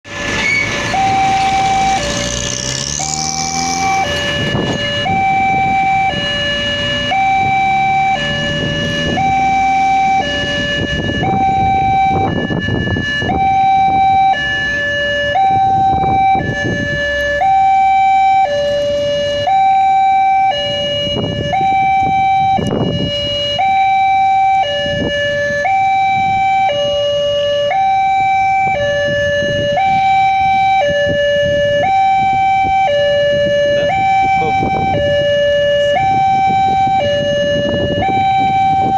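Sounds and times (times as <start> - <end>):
road vehicles passing: 0.0 - 38.9
level crossing two-tone alarm: 0.9 - 38.9.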